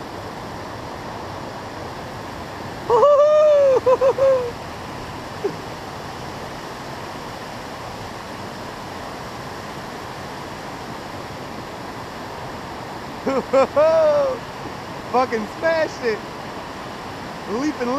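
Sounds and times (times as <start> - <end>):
whitewater rushing: 0.0 - 17.9.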